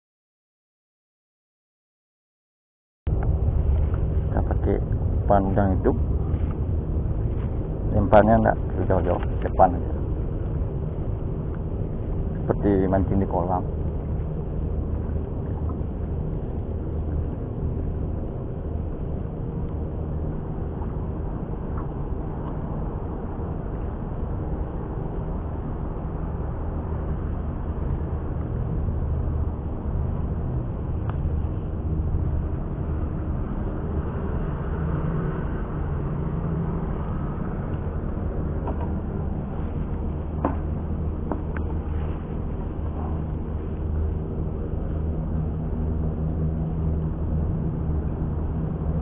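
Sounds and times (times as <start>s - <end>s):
faint hum: 3.1s - 49.0s
low engine-like rumble: 3.1s - 49.0s.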